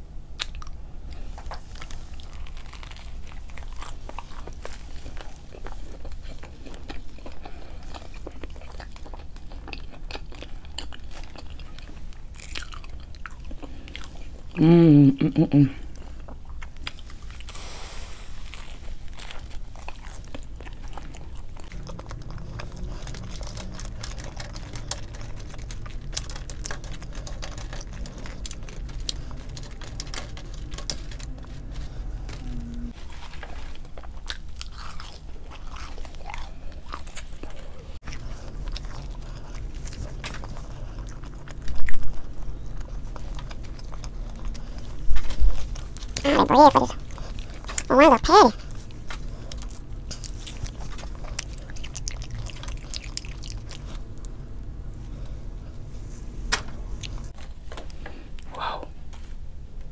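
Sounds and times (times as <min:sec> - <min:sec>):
low steady hum: 0:00.0 - 0:59.9
person chewing food: 0:00.3 - 0:14.6, 0:15.7 - 0:55.9.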